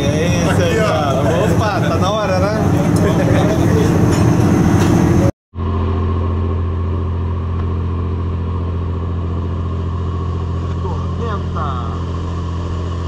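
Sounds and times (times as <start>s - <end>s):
diesel engine hum: 0.0s - 13.0s.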